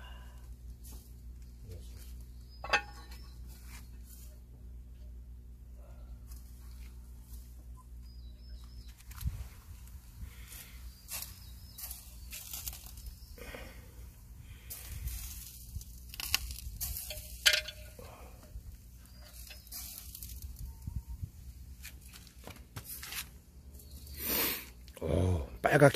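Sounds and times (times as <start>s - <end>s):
fat hissing and crackling on charcoal: 0.0s - 4.5s, 8.6s - 25.1s.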